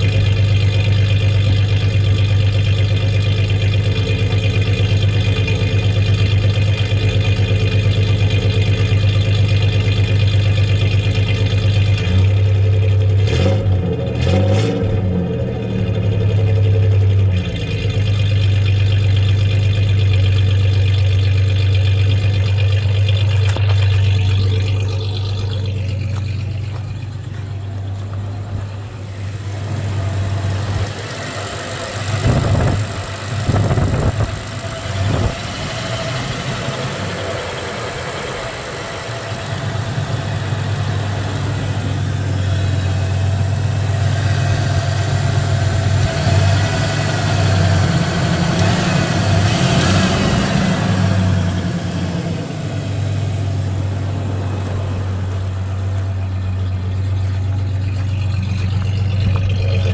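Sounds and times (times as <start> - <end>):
truck engine idling with misfire: 0.0 - 59.9.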